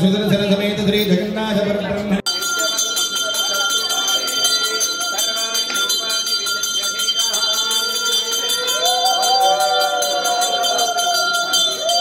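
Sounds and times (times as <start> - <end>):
hand bell ringing: 2.3 - 12.0.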